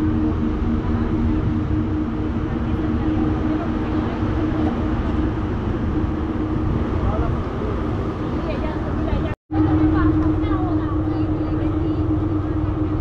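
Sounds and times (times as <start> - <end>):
boat engines droning: 0.0 - 13.0
steady multi-tone hum: 0.0 - 13.0
wind buffeting microphone: 0.0 - 13.0.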